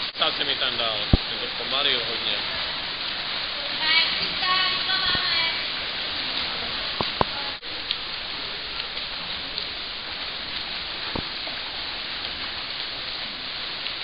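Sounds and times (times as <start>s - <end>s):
water splashing in a pool: 0.0s - 14.0s.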